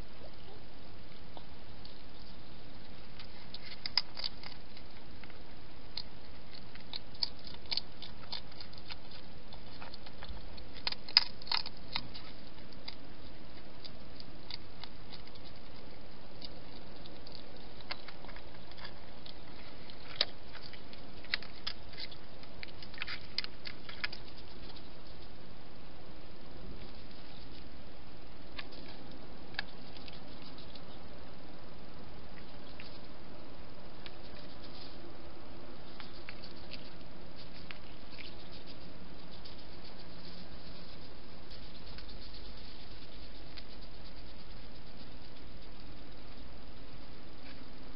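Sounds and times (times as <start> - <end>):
background hiss: 0.0 - 47.9
hedgehog clicks and crackles: 1.3 - 25.4, 26.7 - 31.3, 32.2 - 33.2, 33.9 - 35.1, 35.8 - 47.9.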